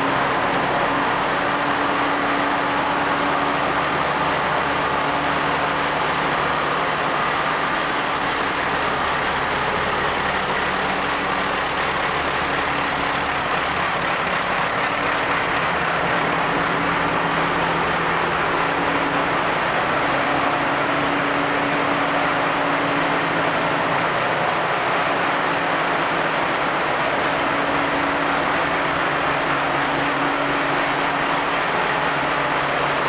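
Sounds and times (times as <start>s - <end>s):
diesel engines droning: 0.0s - 33.0s.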